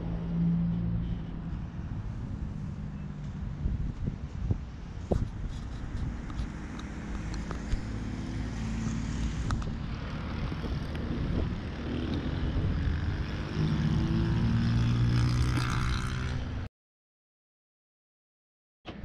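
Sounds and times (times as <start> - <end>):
traffic hum: 0.0 - 16.7.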